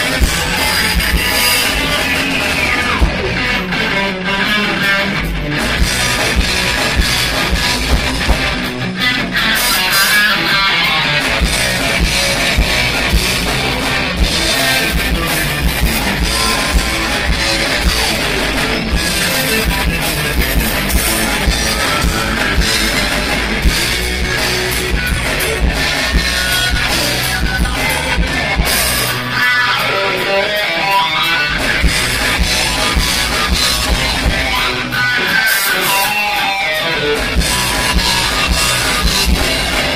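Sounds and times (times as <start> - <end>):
heavy low end: 0.0 - 9.8, 11.0 - 29.4, 31.4 - 35.2, 37.0 - 39.9
drum kit: 0.0 - 39.9
electric guitars: 0.0 - 39.9.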